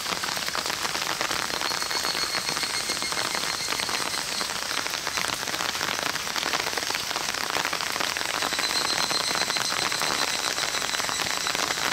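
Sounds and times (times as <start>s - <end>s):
heavy rain pouring: 0.0s - 11.9s.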